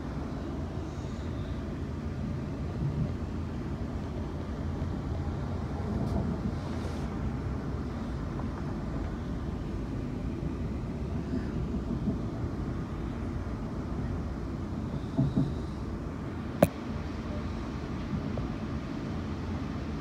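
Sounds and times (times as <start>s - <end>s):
train wheels on track: 0.0s - 16.2s.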